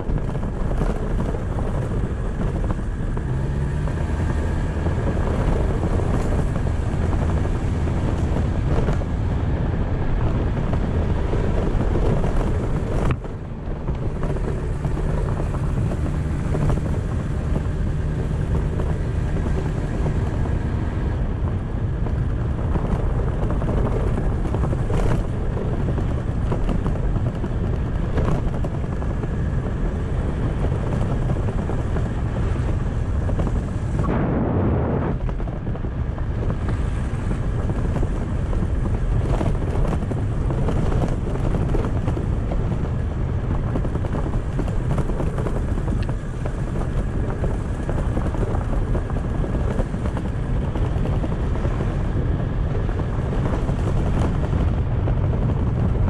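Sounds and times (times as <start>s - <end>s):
scooter engine running: 0.0s - 56.0s
wind noise on microphone: 0.0s - 56.0s.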